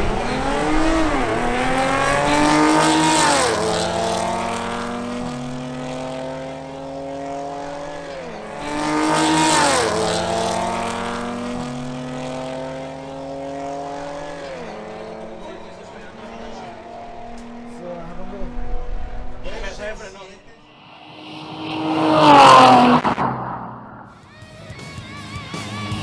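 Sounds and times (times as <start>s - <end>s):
car engines accelerating: 0.0s - 19.9s, 20.6s - 24.2s.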